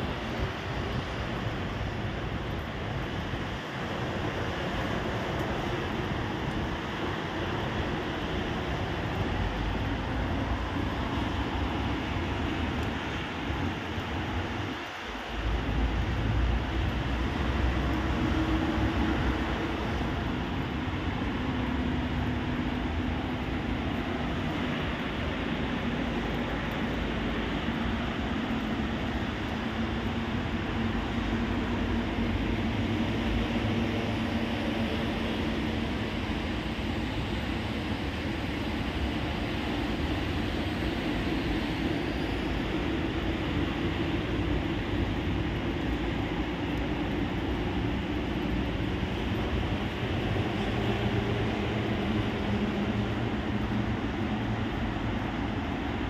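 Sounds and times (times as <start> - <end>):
heavy rain rushing: 0.0 - 56.0.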